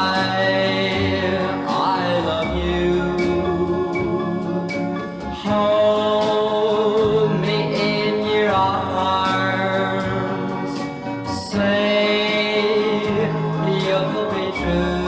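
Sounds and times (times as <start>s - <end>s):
pop record with guitar and beat: 0.0s - 15.0s.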